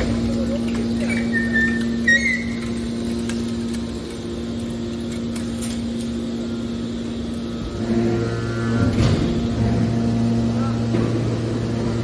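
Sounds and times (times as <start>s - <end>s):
hydraulic baler motor humming: 0.0s - 12.0s.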